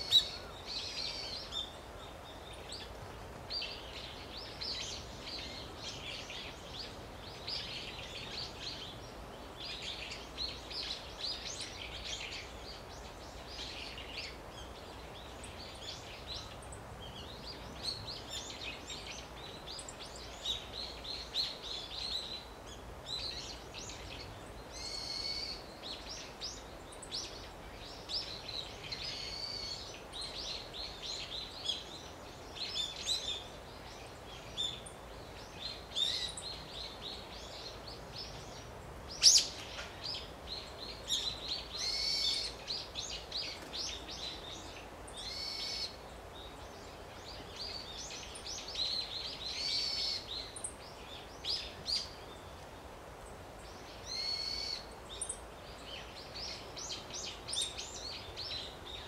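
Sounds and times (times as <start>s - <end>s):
faint outdoor hiss: 0.0s - 59.0s
wild birds chirping: 0.0s - 59.0s.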